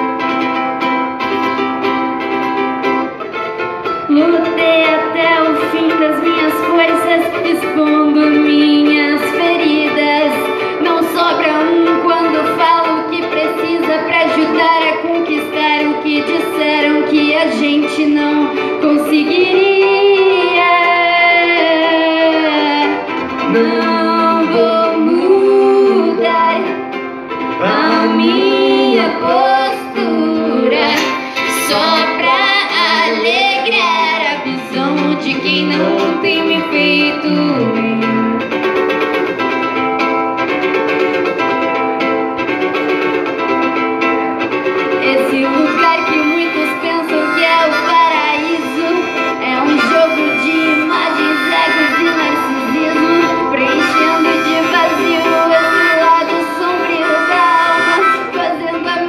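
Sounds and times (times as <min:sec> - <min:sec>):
string instrument accompaniment: 0:00.0 - 0:59.0
woman singing: 0:04.1 - 0:26.8, 0:27.6 - 0:38.7, 0:44.9 - 0:59.0.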